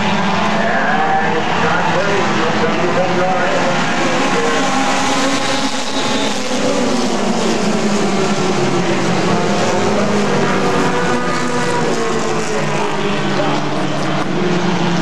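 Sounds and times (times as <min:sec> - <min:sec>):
race car engines: 0:00.0 - 0:15.0.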